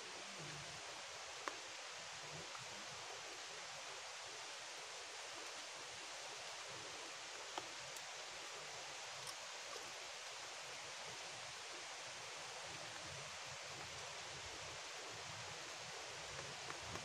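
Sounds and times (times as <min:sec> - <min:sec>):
running and falling water: 0:00.0 - 0:17.0.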